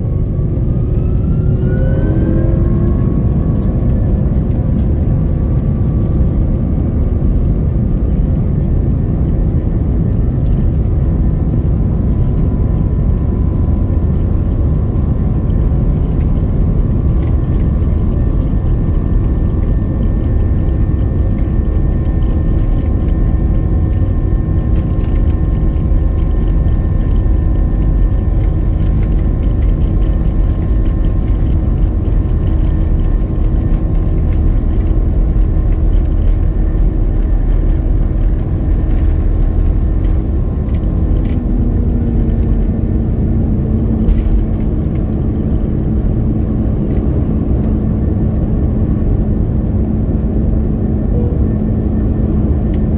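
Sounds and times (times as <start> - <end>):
airliner engines rumbling: 0.0 - 52.9
faint whining tones: 0.0 - 52.9.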